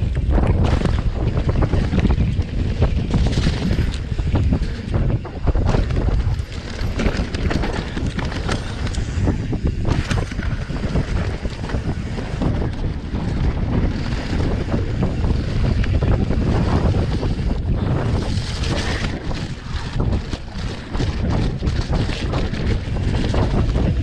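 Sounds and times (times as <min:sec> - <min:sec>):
dirt bike engine rumble: 0:00.0 - 0:24.0
wind buffeting microphone: 0:00.0 - 0:24.0.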